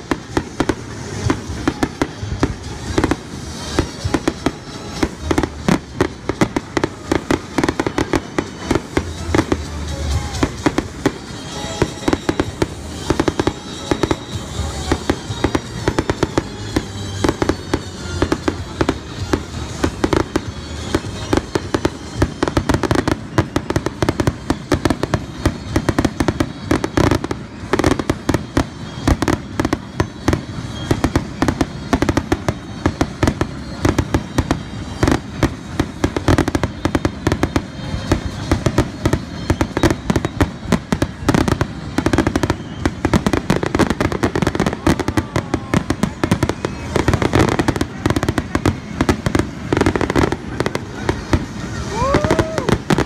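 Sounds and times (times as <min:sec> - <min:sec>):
fireworks bursts and crackling: 0:00.0 - 0:53.0.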